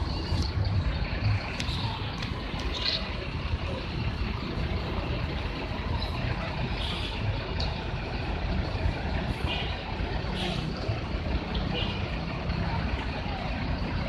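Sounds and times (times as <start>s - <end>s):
bus engines rumbling: 0.0s - 14.0s.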